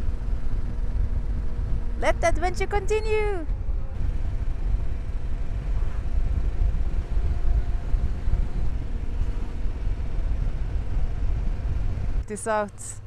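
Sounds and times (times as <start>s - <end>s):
wind buffeting microphone: 0.0s - 12.3s.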